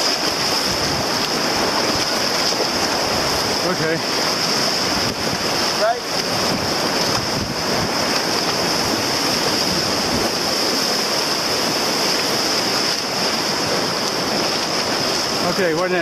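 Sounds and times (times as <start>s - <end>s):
whitewater rushing and splashing: 0.0s - 16.0s.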